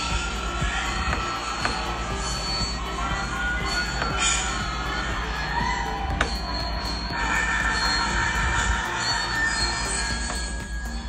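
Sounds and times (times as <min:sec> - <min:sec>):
dance music: 0:00.0 - 0:11.0.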